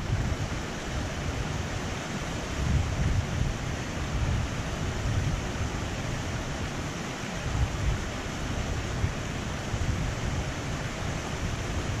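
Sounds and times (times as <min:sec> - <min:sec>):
stream rushing over rocks: 0:00.0 - 0:12.0
wind buffeting microphone: 0:00.0 - 0:12.0.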